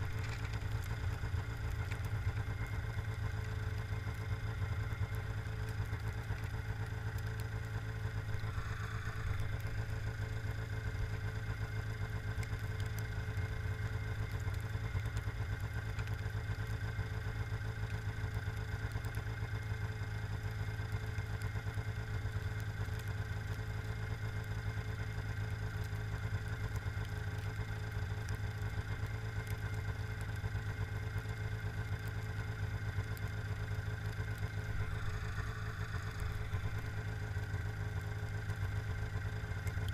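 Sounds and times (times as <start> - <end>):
snowmobile engine idling: 0.0 - 39.9.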